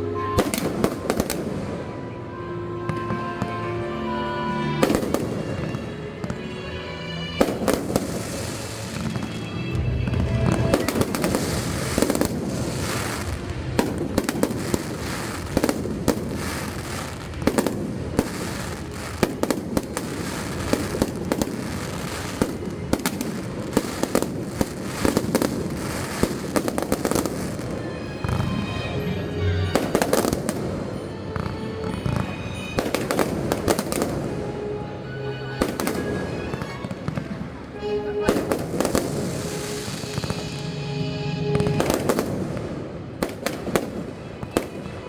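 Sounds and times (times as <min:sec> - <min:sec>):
fireworks bangs and crackles: 0:00.2 - 0:03.7, 0:04.5 - 0:34.6, 0:35.6 - 0:45.0.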